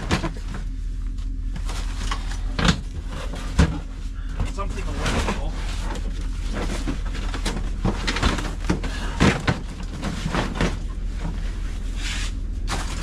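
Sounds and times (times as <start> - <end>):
objects knocking and clattering: 0.0 - 0.7, 1.6 - 11.5
steady low rumble: 0.0 - 13.0.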